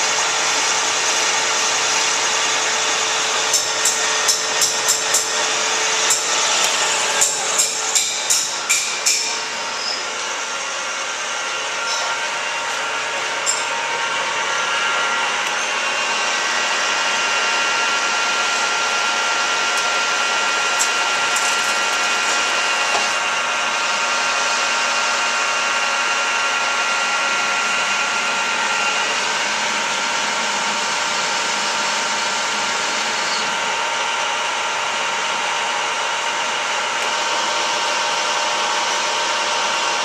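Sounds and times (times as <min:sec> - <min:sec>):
metal lathe whirring: 0:00.0 - 0:40.0.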